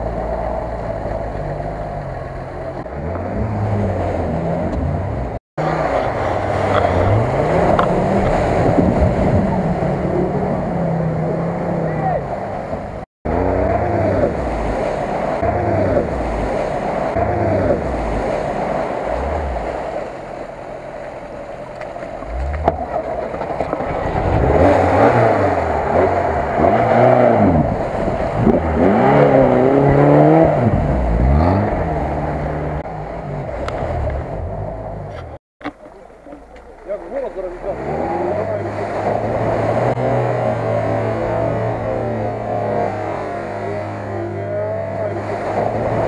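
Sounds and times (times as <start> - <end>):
water sloshing and splashing: 0.0 - 10.1, 13.8 - 44.1
car engine revving: 0.0 - 46.0.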